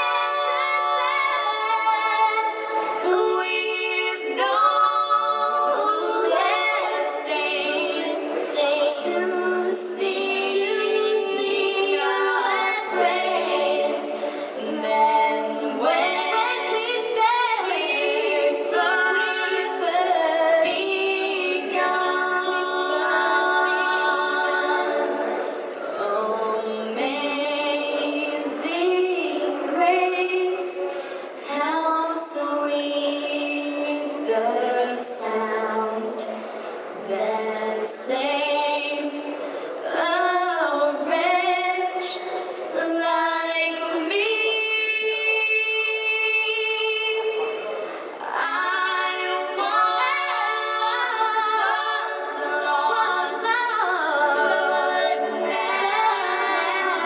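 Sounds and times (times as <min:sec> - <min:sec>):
girls singing in harmony: 0:00.0 - 0:57.0.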